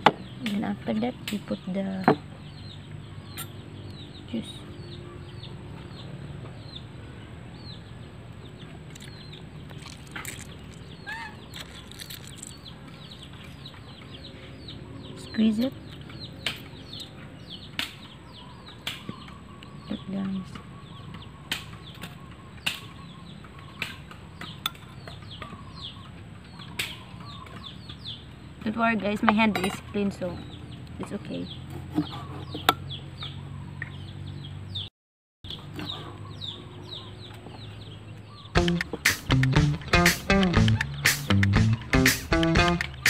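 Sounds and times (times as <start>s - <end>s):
birds peeping: 0.0s - 34.9s, 35.5s - 43.0s.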